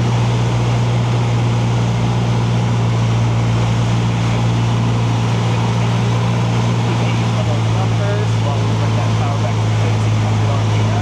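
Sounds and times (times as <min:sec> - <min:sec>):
light aircraft engine and propeller droning: 0:00.0 - 0:11.0.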